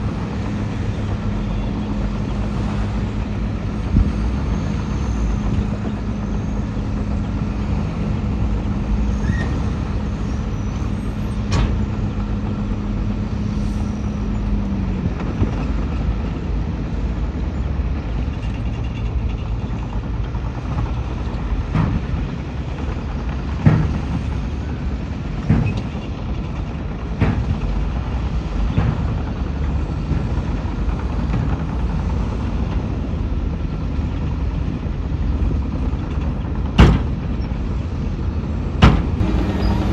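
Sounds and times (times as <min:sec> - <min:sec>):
heavy machinery engine rumble: 0:00.0 - 0:39.9.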